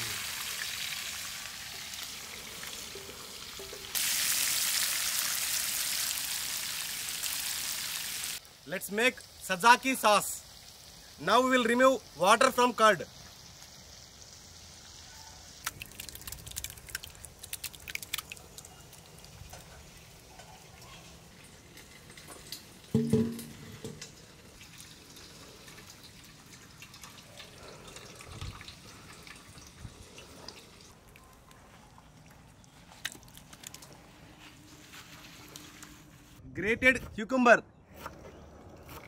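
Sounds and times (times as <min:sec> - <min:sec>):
water dripping and trickling: 0:00.0 - 0:34.4.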